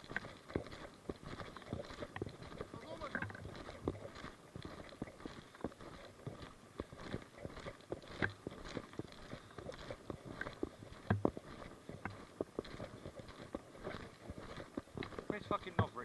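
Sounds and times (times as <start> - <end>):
footsteps on ground: 0.0 - 16.0.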